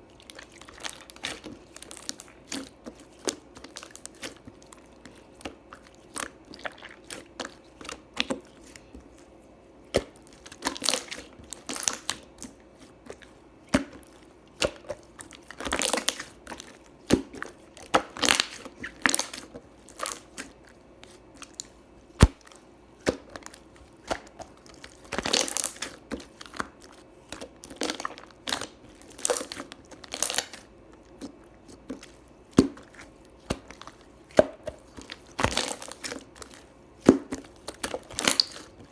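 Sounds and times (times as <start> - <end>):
hands squishing slime: 0.0 - 38.9.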